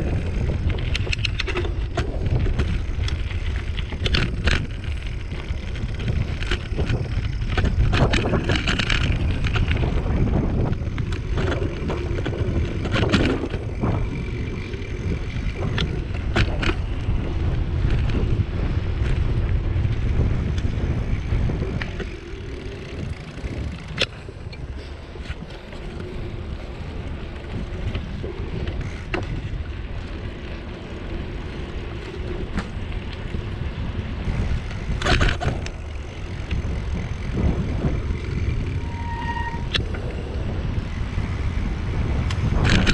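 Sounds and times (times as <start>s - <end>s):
sharp clicks and rattles: 0.0s - 42.9s
tyre rumble on rough road: 0.0s - 42.9s
wind rushing over microphone: 0.0s - 42.9s.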